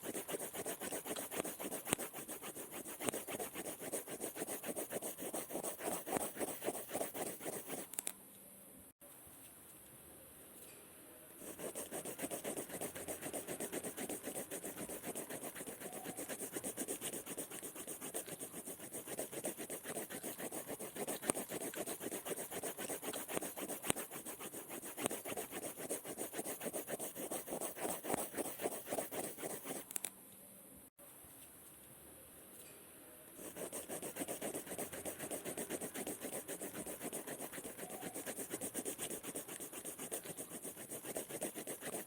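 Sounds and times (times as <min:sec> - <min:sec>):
pencil scribbling on paper: 0:00.0 - 0:07.9, 0:11.4 - 0:29.8, 0:33.4 - 0:42.0.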